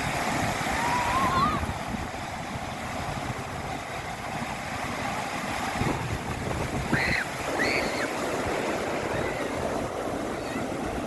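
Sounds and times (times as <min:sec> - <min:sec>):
storm surf rushing: 0:00.0 - 0:11.0
wind buffeting microphone: 0:00.0 - 0:11.0.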